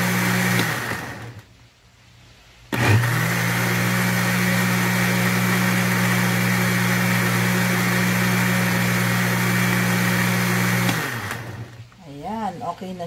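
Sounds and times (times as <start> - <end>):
blender running: 0.0 - 1.4, 2.7 - 11.8.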